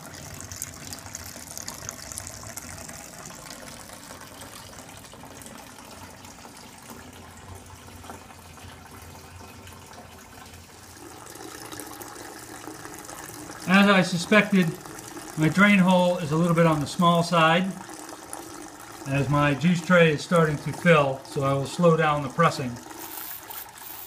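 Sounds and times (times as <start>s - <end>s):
juice pouring into a bucket: 0.0s - 24.0s.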